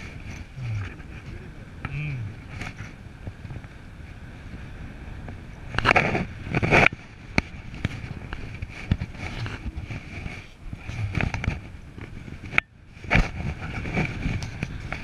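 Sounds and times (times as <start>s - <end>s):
wind buffeting: 0.0s - 15.0s
wind rushing over microphone: 0.0s - 15.0s.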